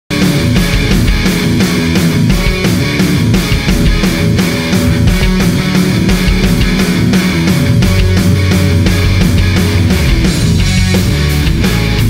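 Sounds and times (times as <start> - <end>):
heavy rock music: 0.1 - 12.0.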